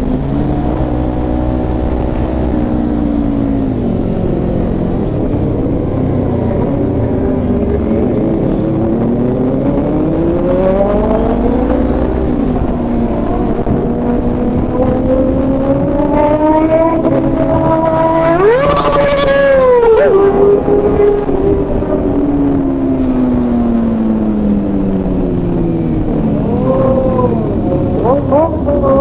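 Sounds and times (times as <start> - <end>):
motorcycle engine revving: 0.0 - 29.0
motorcycle engines: 0.0 - 29.0.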